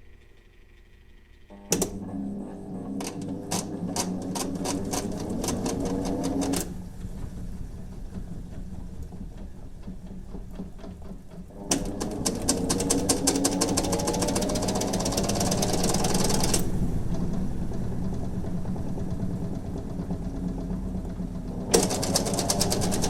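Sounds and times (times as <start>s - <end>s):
washing machine motor hum: 0.0s - 23.0s
rapid clicking knock: 3.0s - 23.0s.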